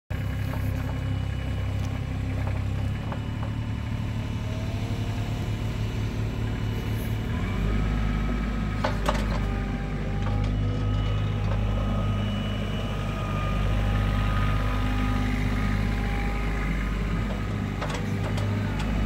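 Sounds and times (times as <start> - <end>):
excavator diesel engine running: 0.1 - 19.0.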